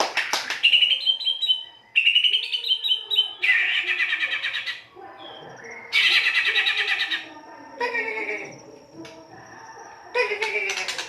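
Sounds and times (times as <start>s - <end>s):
bird singing harsh varied song: 0.5s - 11.0s.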